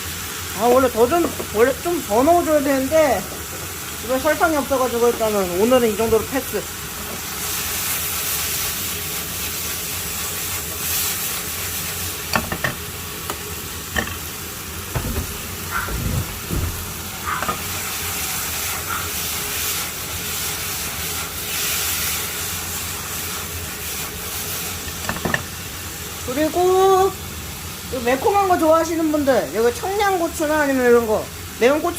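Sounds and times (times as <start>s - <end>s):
meat sizzling in a pan: 0.0s - 31.9s.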